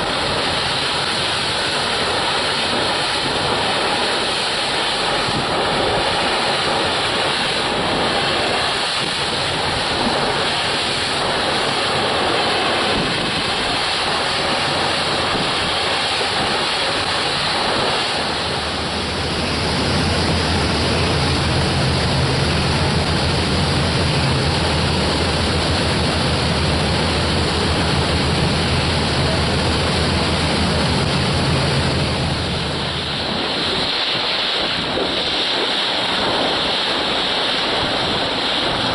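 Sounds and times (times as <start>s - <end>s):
low engine hum: 0.0s - 38.9s
surf: 0.0s - 38.9s
wind on microphone: 0.0s - 38.9s.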